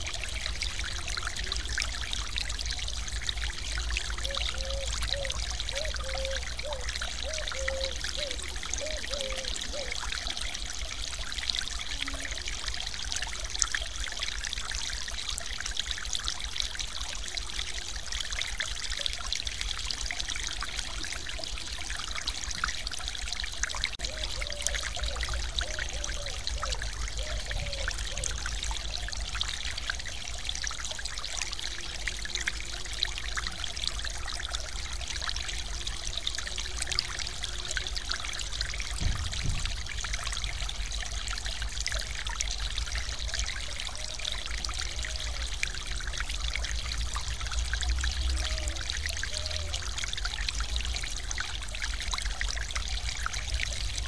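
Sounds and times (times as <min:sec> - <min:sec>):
water pouring over weir: 0:00.0 - 0:54.0.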